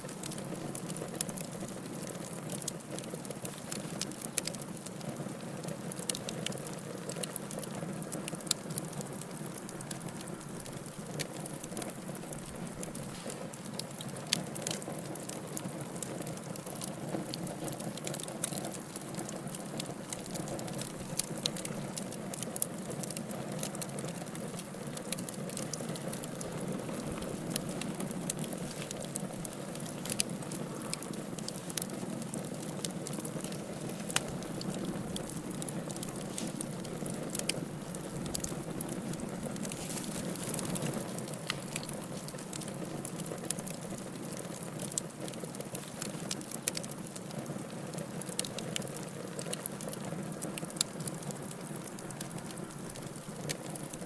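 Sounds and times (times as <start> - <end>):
wood fire crackling in fireplace: 0.0 - 54.0.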